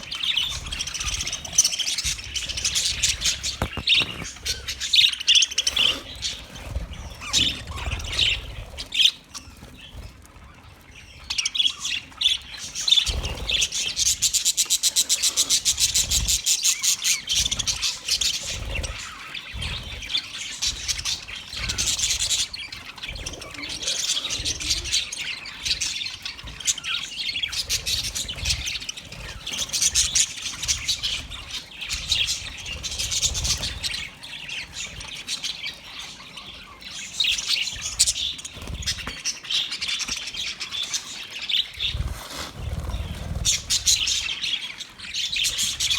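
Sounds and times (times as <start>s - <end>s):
budgerigars chattering and warbling: 0.0s - 45.9s.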